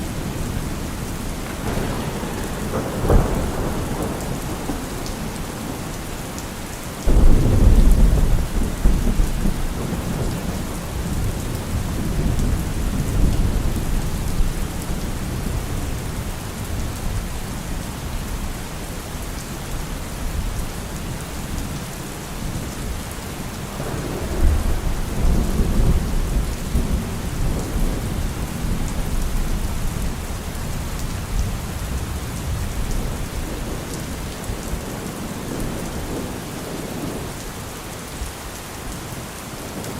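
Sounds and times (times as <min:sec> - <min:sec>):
thunder rumbling: 0:00.0 - 0:18.5, 0:22.4 - 0:37.5
steady rain: 0:00.0 - 0:39.9.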